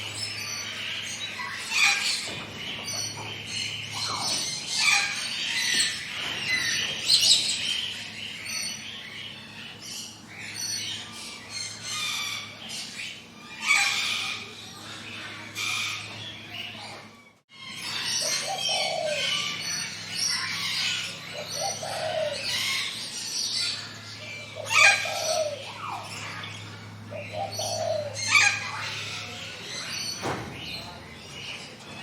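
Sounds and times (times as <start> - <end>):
wild birds chirping and singing: 0.0 - 32.0.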